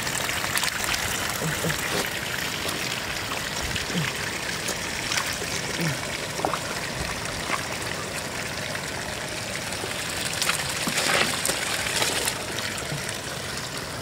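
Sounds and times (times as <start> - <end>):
floodwater running: 0.0 - 14.0.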